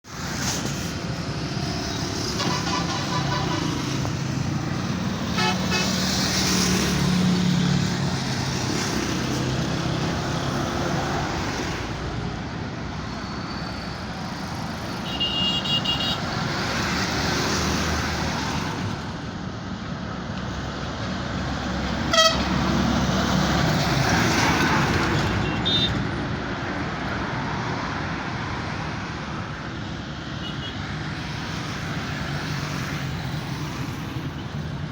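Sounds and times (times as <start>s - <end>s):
truck engines running: 0.1s - 34.9s.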